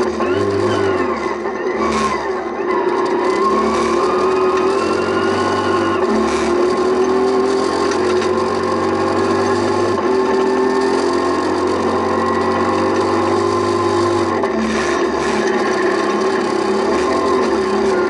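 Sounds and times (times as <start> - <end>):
car engine running hard: 0.0 - 18.0
gravel road noise: 0.0 - 18.0.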